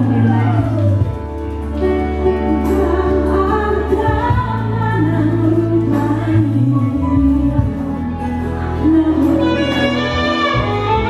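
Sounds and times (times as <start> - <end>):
woman singing into a microphone: 0.0 - 1.2, 2.1 - 11.0
live band playing: 0.0 - 4.9, 5.5 - 11.0.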